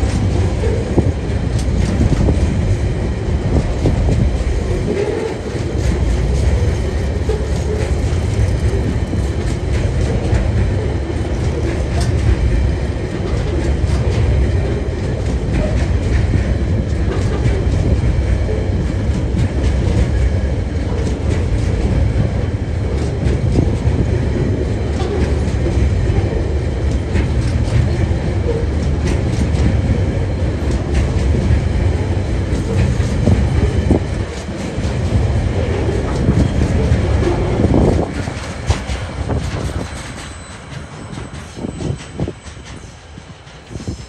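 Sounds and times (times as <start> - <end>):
freight train rumbling past: 0.0 - 44.0
wheels clicking over rail joints: 3.5 - 44.0.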